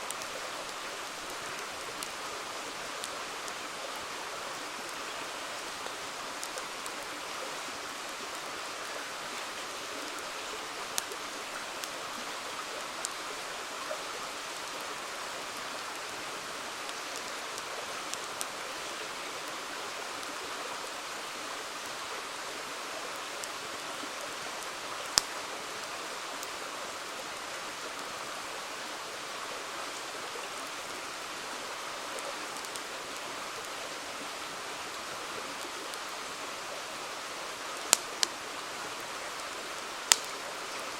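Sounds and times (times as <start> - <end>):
campfire crackling and popping: 0.0 - 40.9
river flowing: 0.0 - 40.9.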